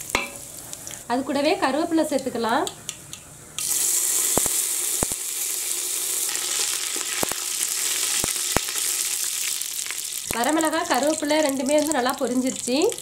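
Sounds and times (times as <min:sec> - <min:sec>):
spices sizzling in hot oil: 0:00.0 - 0:01.1, 0:03.6 - 0:13.0.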